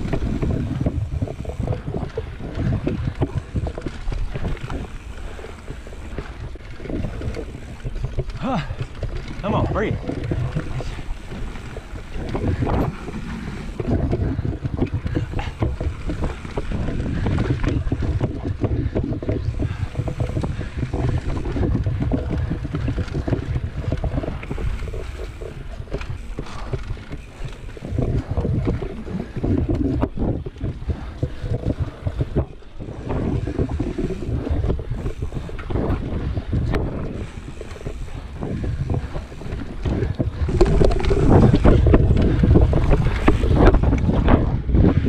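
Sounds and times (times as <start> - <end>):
bike rattling over bumps: 0.0 - 45.0
tyres rumbling on dirt: 0.0 - 45.0
wind buffeting microphone: 0.0 - 45.0.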